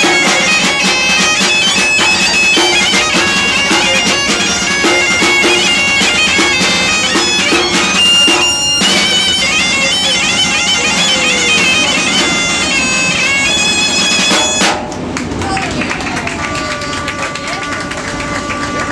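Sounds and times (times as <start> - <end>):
bagpipe melody over drone: 0.0 - 14.8, 16.5 - 18.9.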